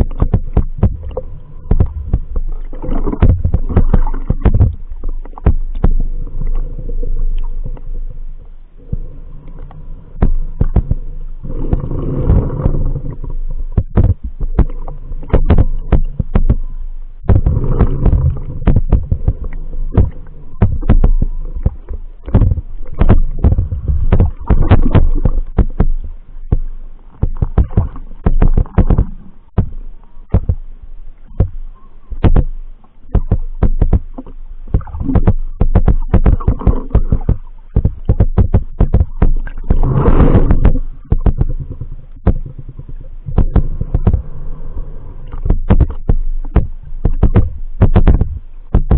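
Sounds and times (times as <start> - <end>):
sharp underwater clicks: 0.0 - 7.9, 8.8 - 44.4, 45.2 - 48.9
underwater sloshing rumbles: 0.0 - 48.9.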